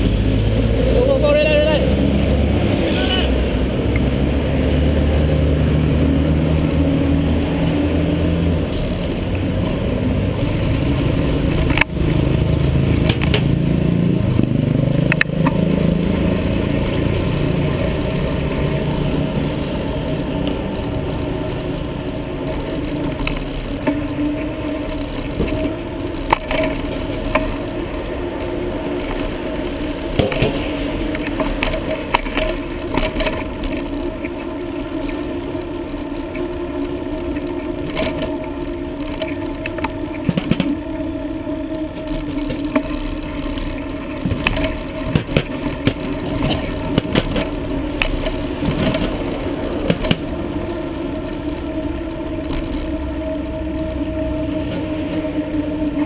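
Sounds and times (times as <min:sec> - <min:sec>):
wind and road noise rumble: 0:00.0 - 0:56.0.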